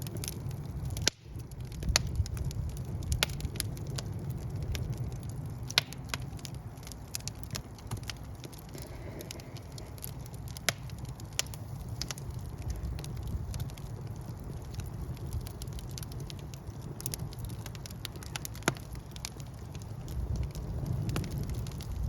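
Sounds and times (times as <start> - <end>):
fire burning with crackles and pops: 0.0 - 22.0.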